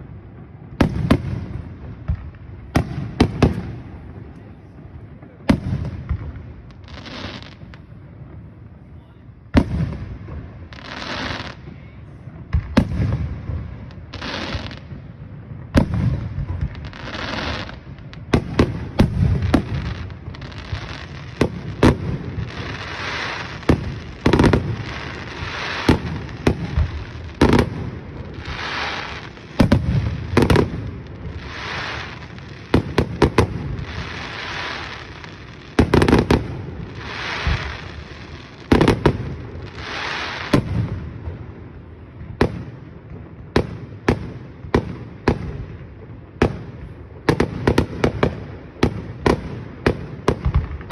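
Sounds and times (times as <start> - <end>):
fireworks crackling hiss: 0.0 - 50.9.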